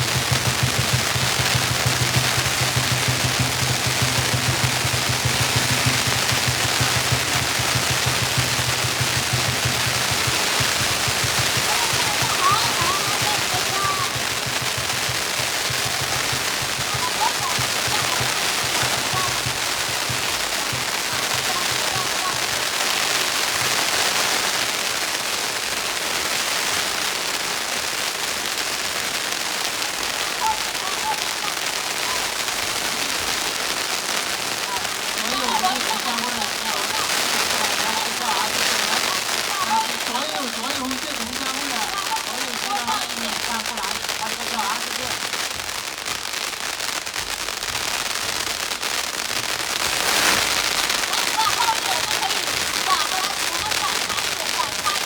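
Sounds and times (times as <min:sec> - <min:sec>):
faint voices: 0:00.0 - 0:24.3, 0:29.7 - 0:46.4, 0:50.0 - 0:55.0
firecrackers crackling: 0:00.0 - 0:55.0.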